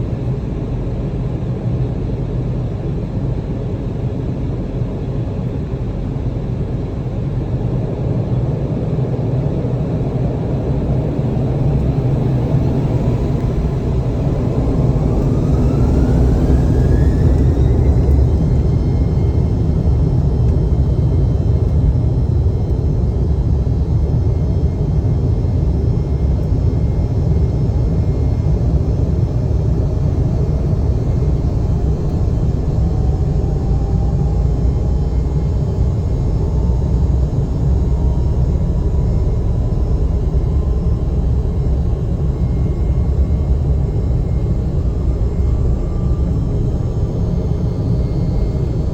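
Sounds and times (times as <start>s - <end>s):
jet engine whine rising: 0.0s - 48.9s
jet engines low rumble: 0.0s - 48.9s.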